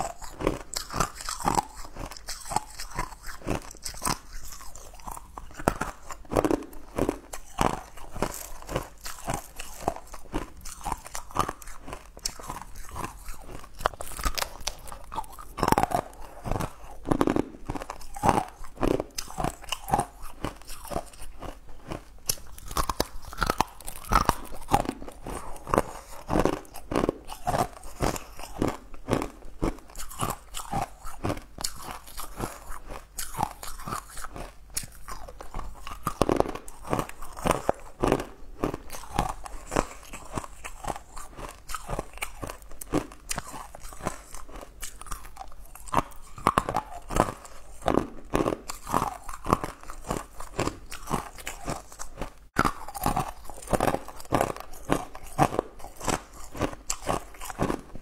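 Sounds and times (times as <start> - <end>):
crunching hard candy: 0.0 - 58.0.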